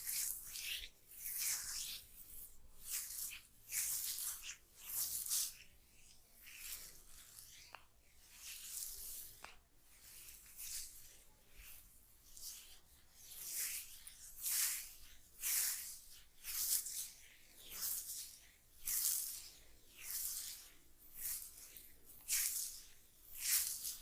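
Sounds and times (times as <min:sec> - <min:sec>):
oiled hands swishing through hair: 0:00.0 - 0:24.0.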